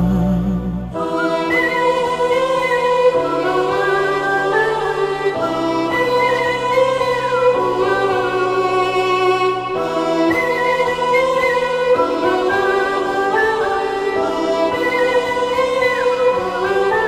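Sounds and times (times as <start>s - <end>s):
sentimental film song music: 0.0s - 17.0s
wordless choir singing: 0.0s - 17.0s.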